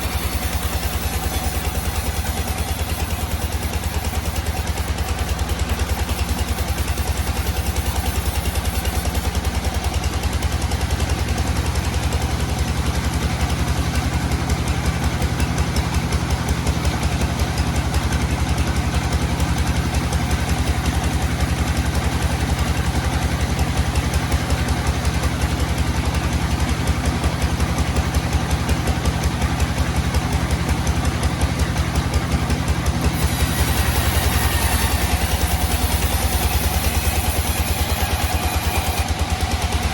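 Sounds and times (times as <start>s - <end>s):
sawmill engine pulsing: 0.0s - 39.9s.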